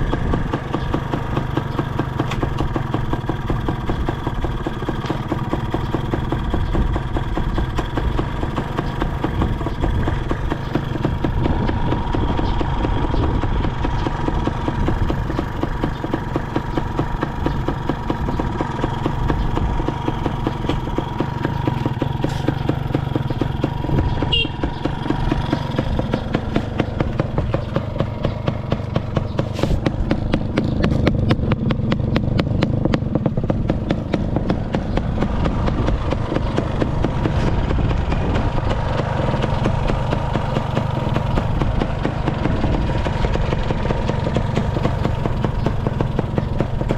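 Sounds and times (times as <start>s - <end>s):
two-stroke motorcycle engine idling: 0.0s - 46.9s.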